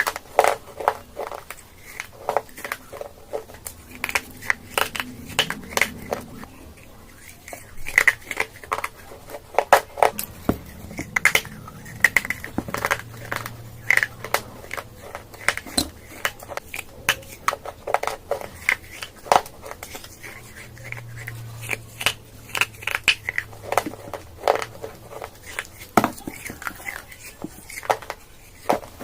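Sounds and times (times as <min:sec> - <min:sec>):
chalk crunching being chewed: 0:00.0 - 0:29.0.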